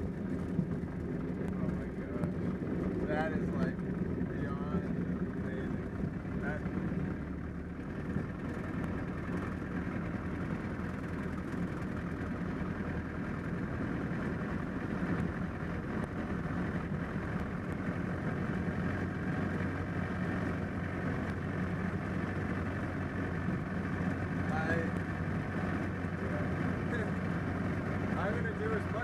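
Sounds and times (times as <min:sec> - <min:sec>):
airplane engine droning: 0:00.0 - 0:29.0.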